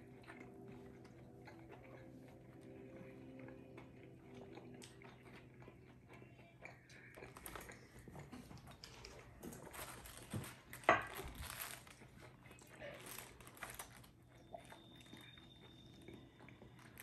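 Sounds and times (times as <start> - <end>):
chewing and crunching: 0.0 - 17.0
faint steady hum: 0.0 - 17.0.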